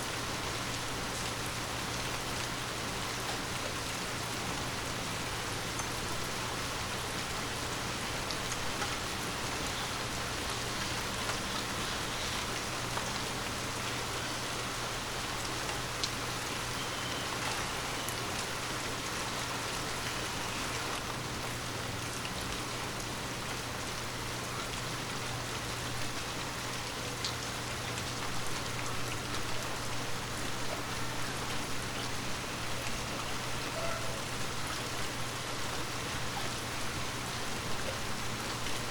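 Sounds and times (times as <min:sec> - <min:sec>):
light rain hissing: 0:00.0 - 0:38.9.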